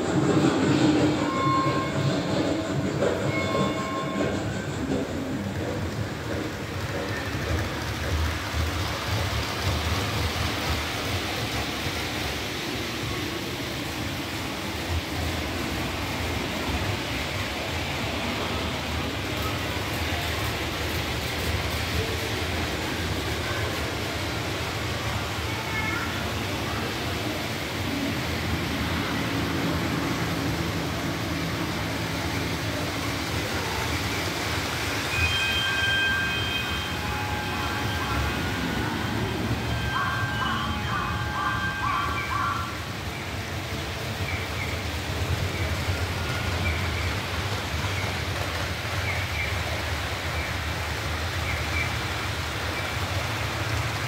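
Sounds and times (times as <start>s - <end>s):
hall background noise: 0.0s - 54.0s
model train wheels on rail: 0.0s - 54.0s.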